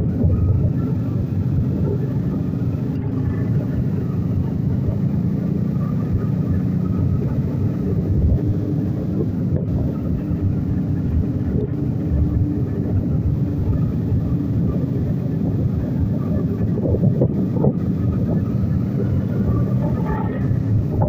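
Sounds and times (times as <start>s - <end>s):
faint engine hum: 0.0s - 21.0s
motorcycle engines rumbling: 0.0s - 21.0s
wind buffeting microphone: 0.0s - 21.0s.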